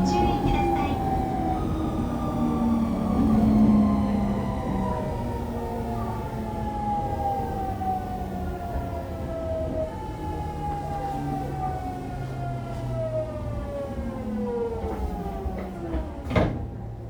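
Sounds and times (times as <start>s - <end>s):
wheels rumbling on track: 0.0s - 17.0s.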